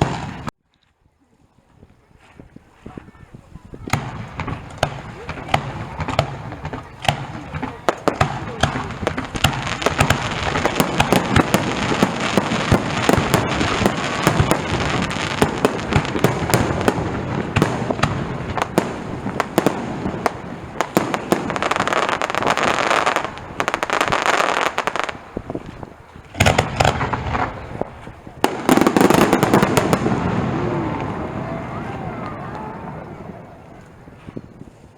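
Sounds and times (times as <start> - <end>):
fireworks bangs: 0.0 - 0.5, 2.8 - 34.9
fireworks crackling: 0.0 - 0.6, 1.8 - 34.9.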